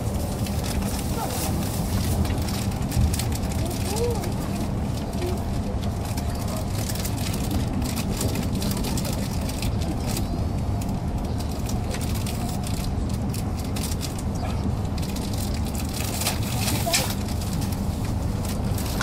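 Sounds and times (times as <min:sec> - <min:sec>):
train cabin rumble: 0:00.0 - 0:19.0.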